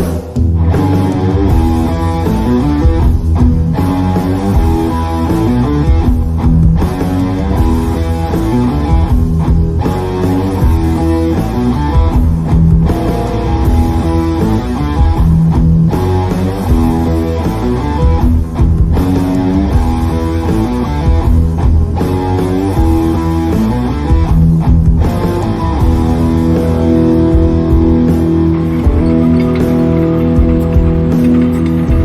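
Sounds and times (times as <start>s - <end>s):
loud guitar rock music: 0.0s - 32.0s.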